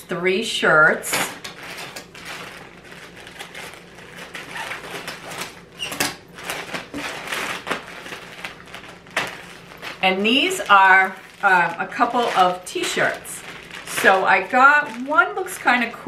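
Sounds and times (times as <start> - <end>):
plastic bag crinkling: 1.1 - 16.0.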